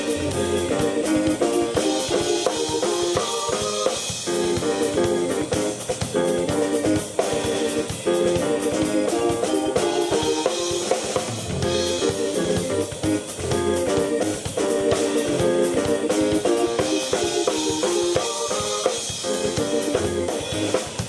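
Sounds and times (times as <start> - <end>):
drum beat with cymbals: 0.0 - 21.0
keyboard chords: 0.0 - 21.0.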